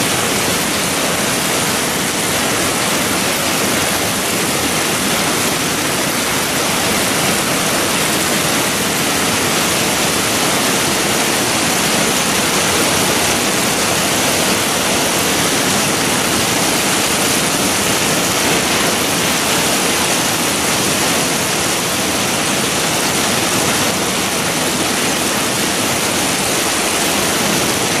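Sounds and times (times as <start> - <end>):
heavy rain and hail pelting: 0.0 - 28.0.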